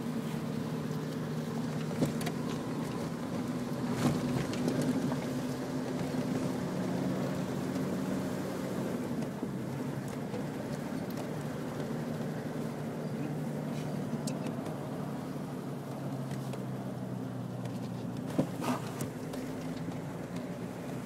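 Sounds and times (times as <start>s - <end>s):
car engine running at low speed: 0.0s - 21.0s.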